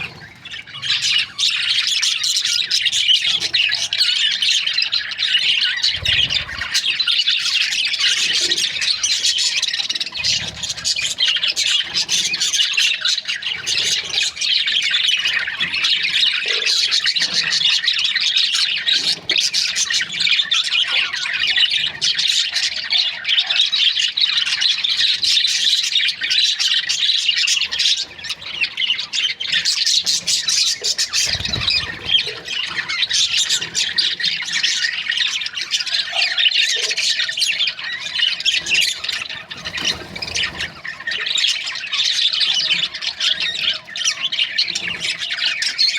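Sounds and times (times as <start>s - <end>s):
budgerigars chirping: 0.0s - 45.9s.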